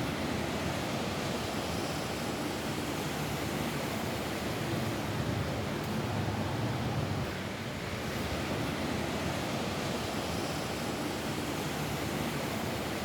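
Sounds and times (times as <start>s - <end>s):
rain falling on a roof: 2.3s - 13.0s.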